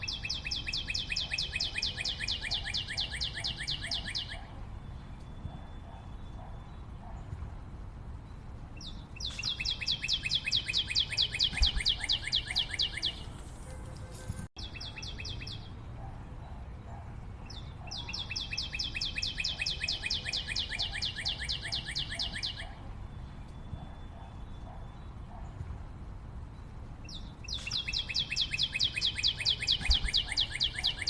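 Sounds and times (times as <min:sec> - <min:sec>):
forest background hum: 0:00.0 - 0:31.0.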